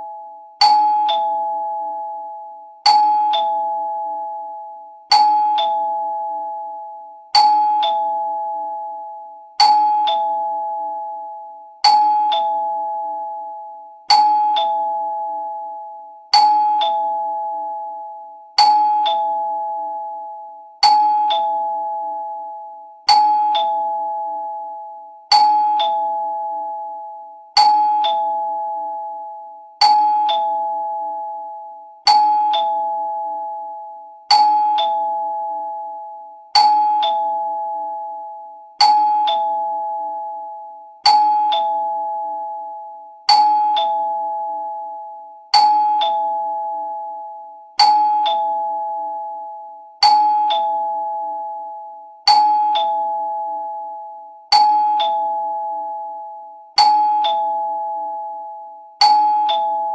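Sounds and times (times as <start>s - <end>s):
two-tone doorbell chime: 0.0s - 59.9s.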